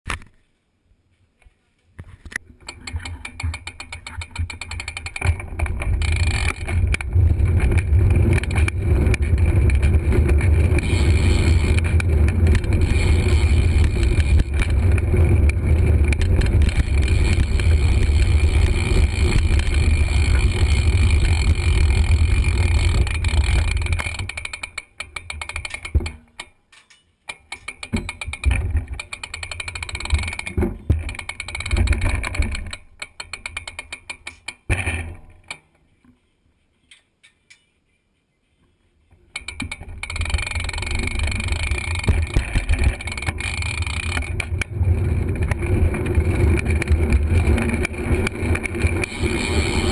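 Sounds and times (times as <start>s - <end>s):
bike freewheel and chain clicking: 2.6s - 26.5s, 27.3s - 35.6s, 39.3s - 49.9s.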